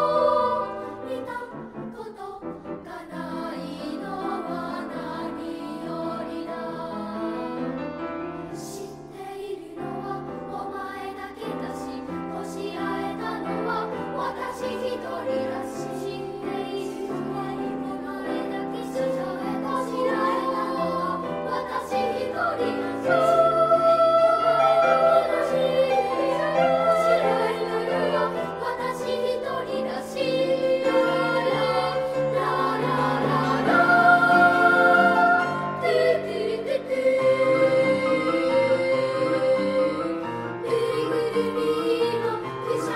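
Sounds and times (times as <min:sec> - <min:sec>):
children's choir singing: 0:00.0 - 0:42.9.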